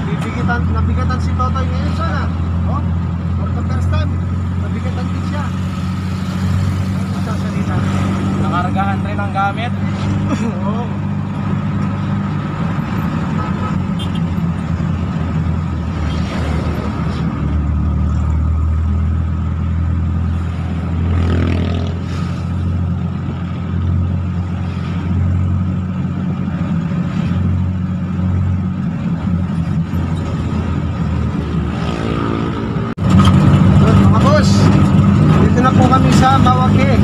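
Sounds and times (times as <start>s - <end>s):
vehicle engine droning: 0.0s - 37.0s.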